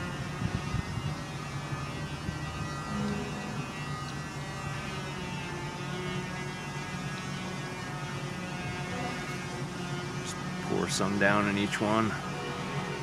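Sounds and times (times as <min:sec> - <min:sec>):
steady hum of held tones: 0:00.0 - 0:13.0.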